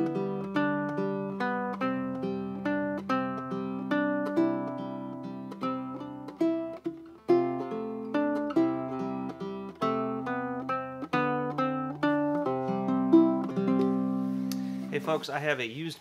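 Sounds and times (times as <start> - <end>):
fingerpicked ukulele: 0.0 - 15.2.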